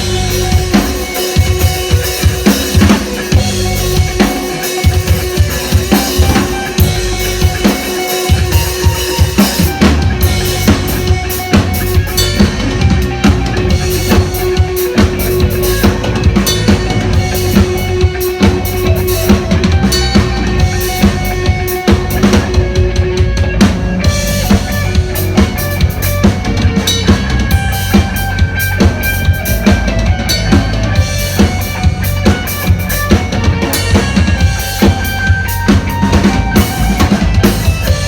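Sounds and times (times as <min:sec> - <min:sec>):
drum beat: 0:00.0 - 0:38.0.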